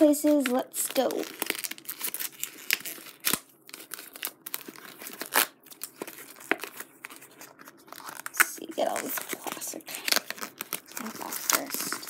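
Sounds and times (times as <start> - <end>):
paper packaging tearing: 0.2 - 12.0.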